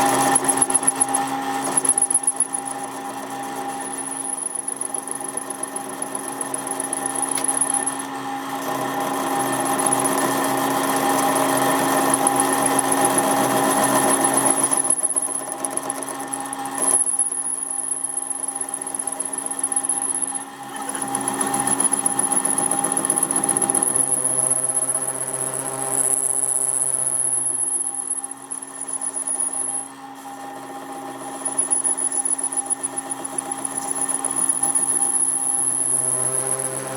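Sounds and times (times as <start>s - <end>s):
power drill whining on metal: 0.1s - 36.9s.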